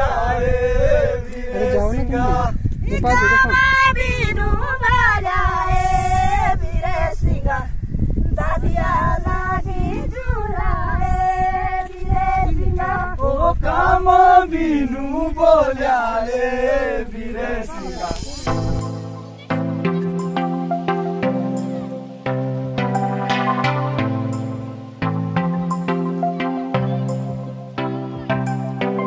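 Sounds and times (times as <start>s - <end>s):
voices singing: 0.0s - 29.0s.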